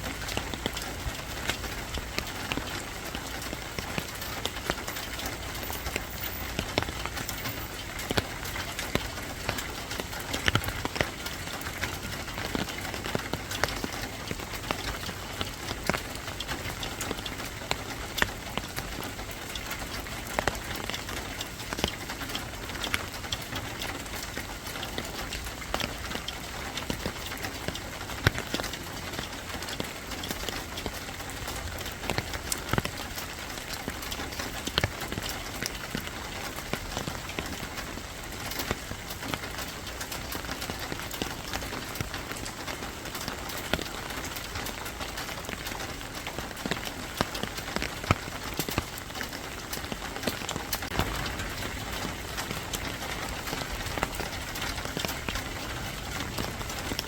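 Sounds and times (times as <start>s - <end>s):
sharp drips and taps: 0.0s - 57.0s
steady rain falling: 0.0s - 57.0s.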